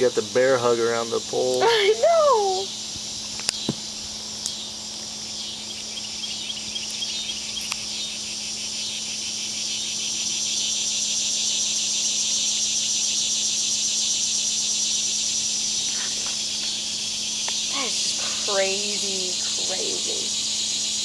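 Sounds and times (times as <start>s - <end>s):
insect chorus buzzing: 0.0s - 21.0s.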